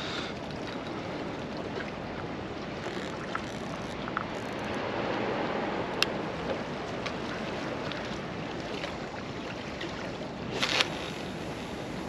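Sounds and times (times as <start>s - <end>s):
sea water washing on rocks: 0.0s - 12.0s.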